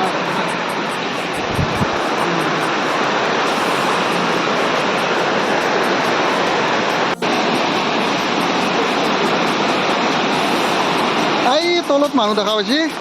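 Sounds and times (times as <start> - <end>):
waterfall pouring: 1.8 - 13.0.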